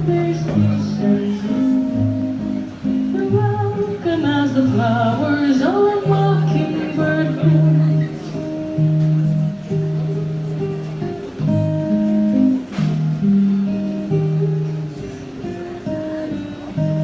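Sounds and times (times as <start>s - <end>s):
rockabilly band with guitar: 0.0s - 17.0s.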